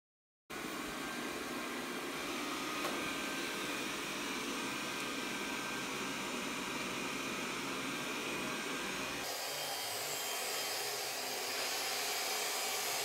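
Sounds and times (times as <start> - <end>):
robot vacuum whirring: 2.0 - 13.0.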